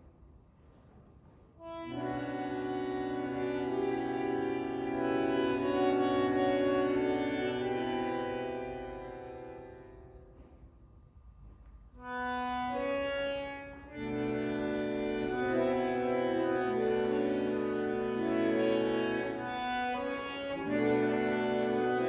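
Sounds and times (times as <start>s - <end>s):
bandoneon and orchestra chords: 1.6s - 9.8s, 12.2s - 22.0s.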